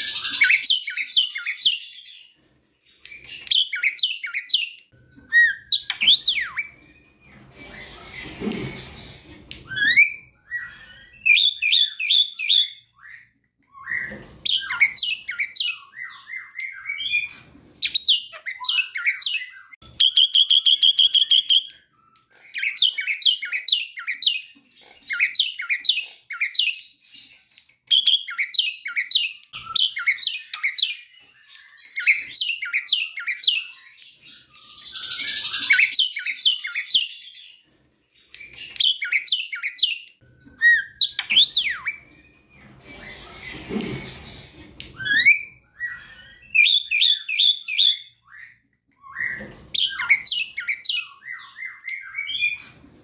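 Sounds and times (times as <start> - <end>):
bird whistling song: 0.0 - 2.3, 3.0 - 8.7, 9.6 - 27.1, 27.8 - 37.6, 38.2 - 44.2, 44.8 - 52.9.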